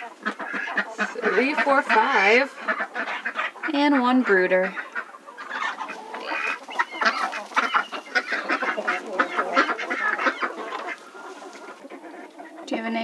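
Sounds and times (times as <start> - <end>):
chickens and ducks calling: 0.0 - 13.0.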